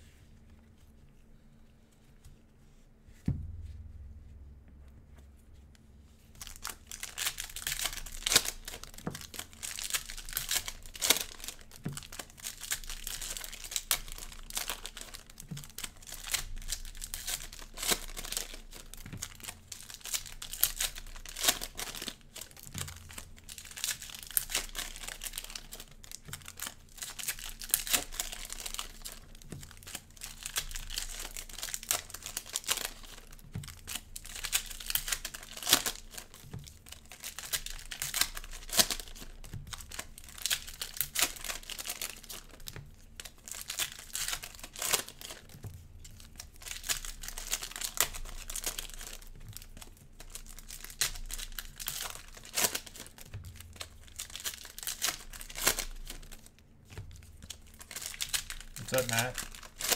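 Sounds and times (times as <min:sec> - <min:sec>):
cellophane wrappers crinkling: 0:06.2 - 0:59.9
cellophane tearing: 0:06.4 - 0:56.5, 0:57.1 - 0:59.9.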